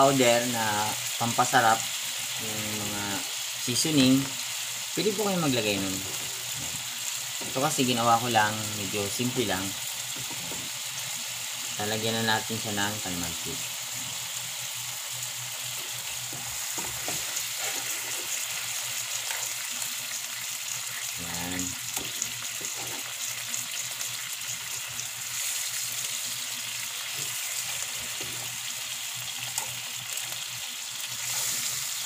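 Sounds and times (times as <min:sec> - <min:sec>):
fish sizzling in a frying pan: 0:00.0 - 0:32.0.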